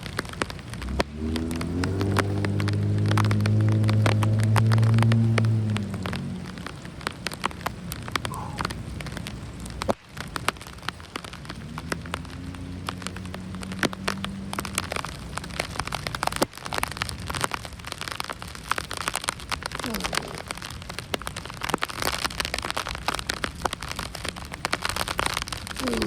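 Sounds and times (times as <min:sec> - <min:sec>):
raindrops ticking near microphone: 0:00.0 - 0:26.0
steady rain: 0:00.0 - 0:26.0.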